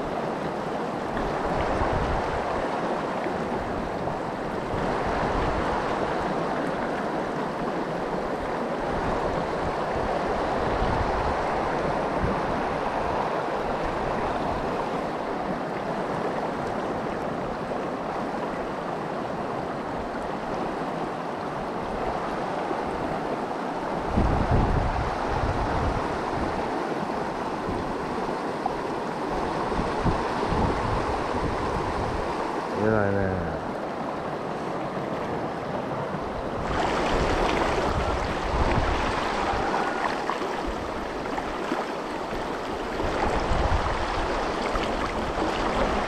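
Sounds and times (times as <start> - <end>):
stream water rushing: 0.0 - 46.0
wind rumbling on microphone: 0.0 - 46.0.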